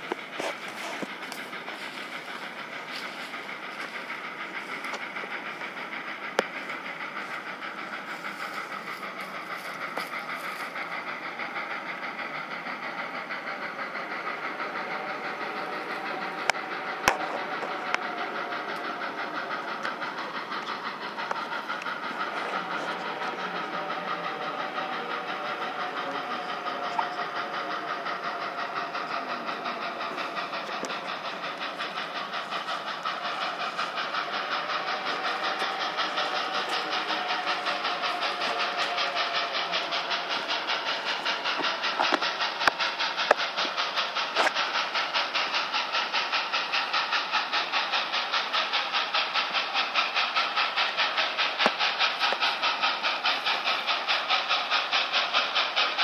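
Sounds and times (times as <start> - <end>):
steam locomotive exhaust beat: 0.0 - 56.0.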